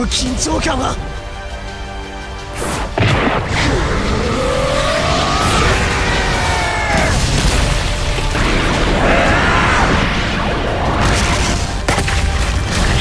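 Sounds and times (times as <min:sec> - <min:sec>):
fight scene music: 0:00.0 - 0:13.0
booming and crashing impacts: 0:02.6 - 0:13.0.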